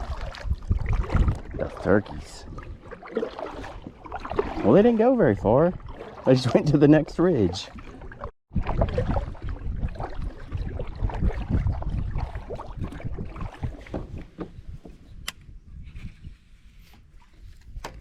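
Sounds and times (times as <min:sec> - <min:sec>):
paddle splashing water: 0:00.0 - 0:14.8.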